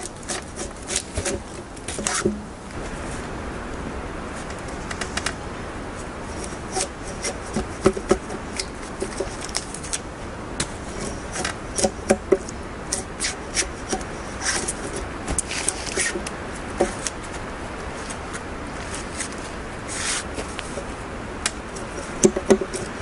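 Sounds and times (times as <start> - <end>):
blade scraping wood: 0.0 - 2.4, 6.3 - 10.0, 10.6 - 23.0.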